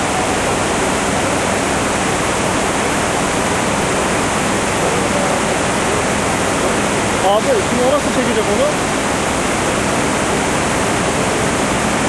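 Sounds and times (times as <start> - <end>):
floodwater rushing in a river: 0.0 - 12.0.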